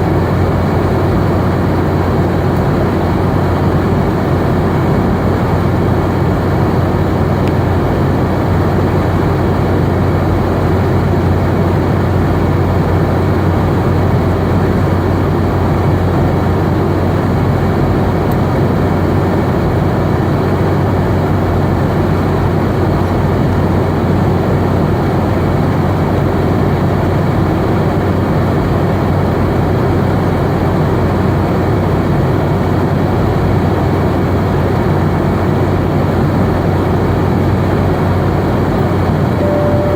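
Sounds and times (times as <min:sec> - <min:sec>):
aircraft cabin hum and airflow roar: 0:00.0 - 0:39.9.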